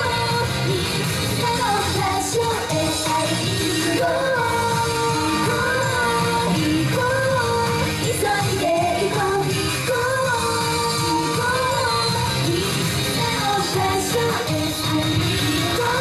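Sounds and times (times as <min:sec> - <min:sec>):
women singing pop song: 0:00.0 - 0:16.0.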